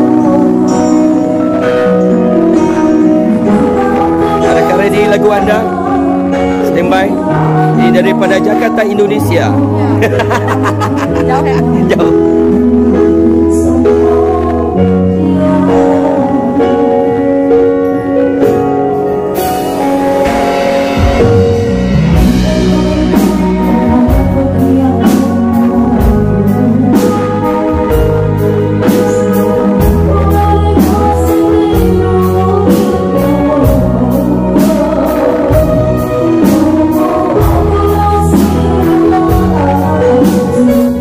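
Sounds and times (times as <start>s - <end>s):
live band playing: 0.0s - 41.0s
person singing: 0.0s - 41.0s.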